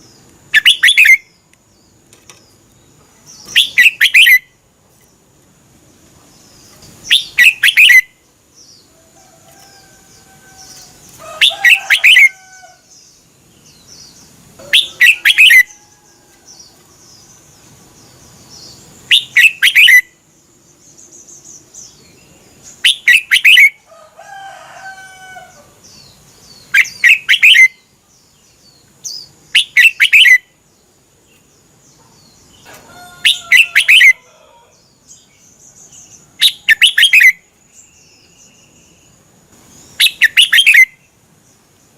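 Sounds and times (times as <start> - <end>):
bird singing warbling phrases: 0.0 - 5.2, 6.0 - 8.9, 10.1 - 23.9, 25.4 - 41.2.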